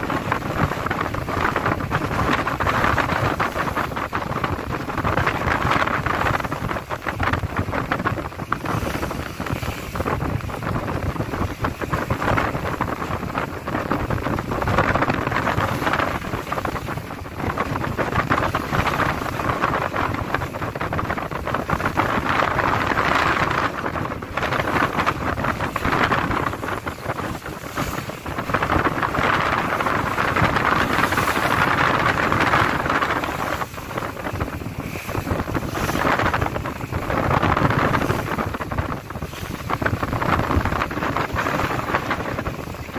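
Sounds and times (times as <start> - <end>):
strong wind on microphone: 0.0 - 42.9
waves rushing and breaking: 0.0 - 42.9.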